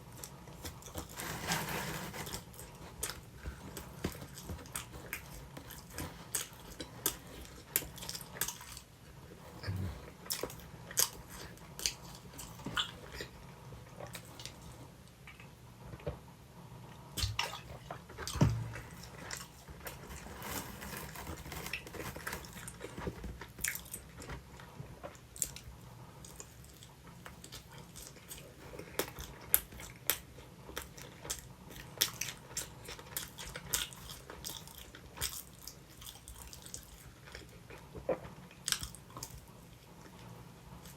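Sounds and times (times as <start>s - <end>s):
crust crunching while chewing: 0.0s - 16.1s, 16.9s - 40.9s.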